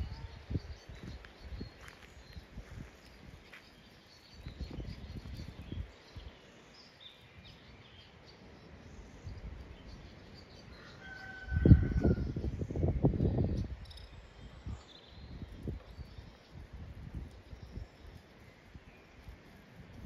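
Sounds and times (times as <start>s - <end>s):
faint birdsong: 0.0s - 20.0s
outdoor background noise: 0.0s - 20.0s.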